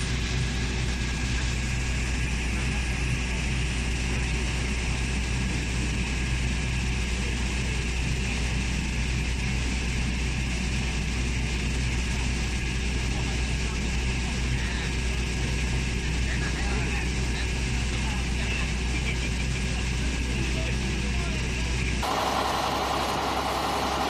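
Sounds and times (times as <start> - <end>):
water pump engine drone: 0.0 - 24.0.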